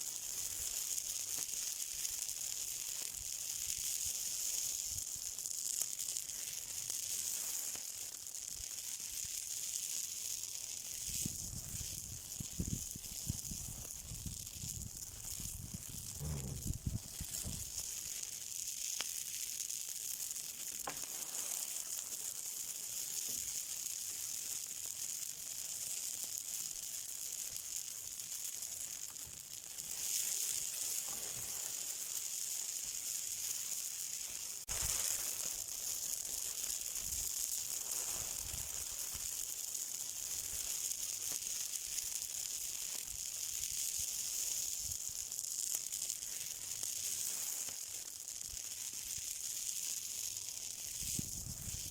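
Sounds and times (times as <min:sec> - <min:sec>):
fire crackling: 0:00.0 - 0:51.9
fire hissing: 0:00.0 - 0:51.9.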